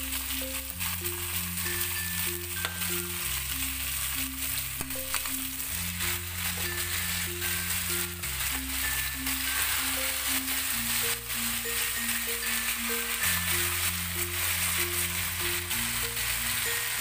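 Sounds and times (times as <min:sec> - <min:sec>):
background music with bass line: 0:00.0 - 0:17.0
chicken sizzling in a pan: 0:00.0 - 0:17.0.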